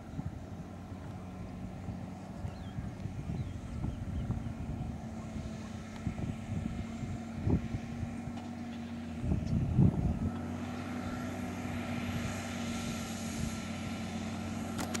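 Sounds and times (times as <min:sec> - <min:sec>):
distant tractor diesel drone: 0:00.0 - 0:15.0
wind rumble on microphone: 0:00.0 - 0:15.0.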